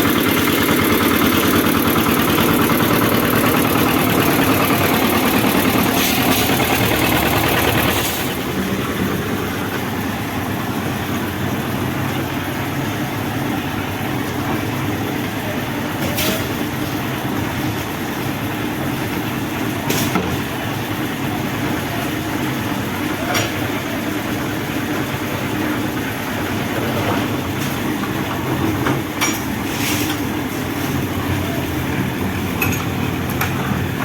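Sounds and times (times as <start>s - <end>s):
concrete mixer engine running: 0.0s - 34.0s.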